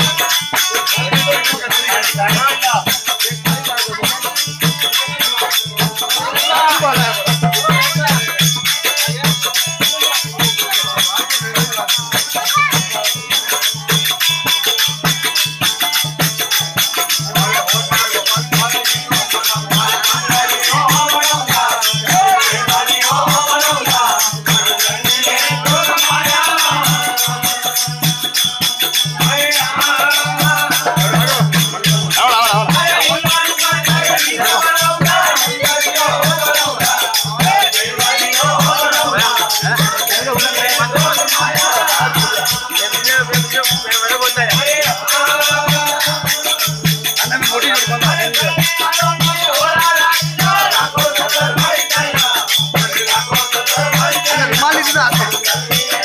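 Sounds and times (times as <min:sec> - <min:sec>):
hand drum beating: 0:00.0 - 0:56.0
men singing: 0:00.0 - 0:56.0
metallic jingling percussion: 0:00.0 - 0:56.0.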